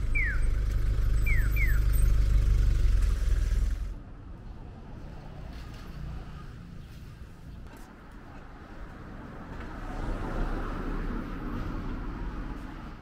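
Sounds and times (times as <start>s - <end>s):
quiet street ambience: 0.0s - 13.0s.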